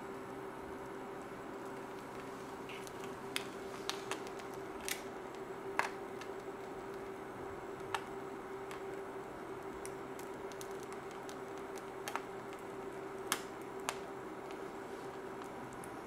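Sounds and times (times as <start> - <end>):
cooker hum: 0.0 - 16.0
egg sizzling in a pan: 0.7 - 16.0
sharp crackles: 1.2 - 9.0, 9.6 - 16.0.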